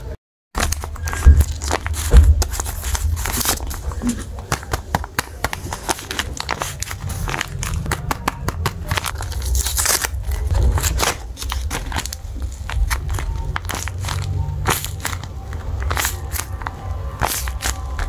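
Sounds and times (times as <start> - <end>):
paper crinkling: 0.6 - 18.0
paper scrape: 0.6 - 18.0.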